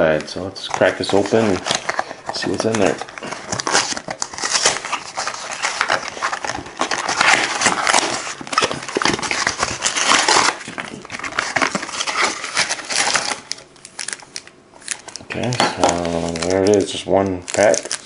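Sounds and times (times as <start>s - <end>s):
cardboard rustling and tearing: 0.7s - 14.2s, 14.8s - 18.0s.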